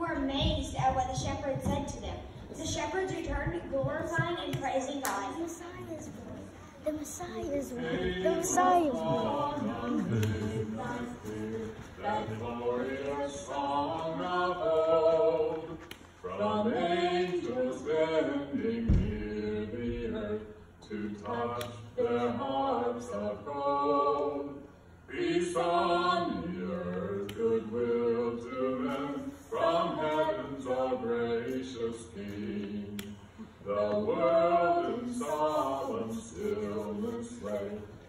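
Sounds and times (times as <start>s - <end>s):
voices singing unaccompanied: 2.6s - 38.0s.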